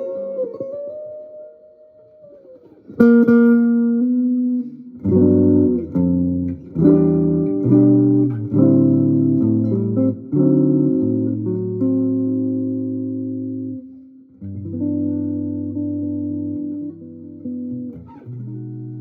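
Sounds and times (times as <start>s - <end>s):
guitar playing chords: 0.0s - 19.0s.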